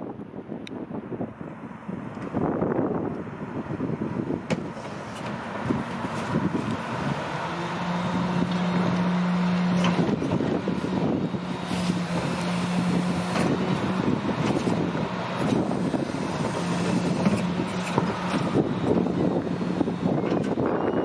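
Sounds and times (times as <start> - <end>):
garbage truck running: 3.3 - 21.0.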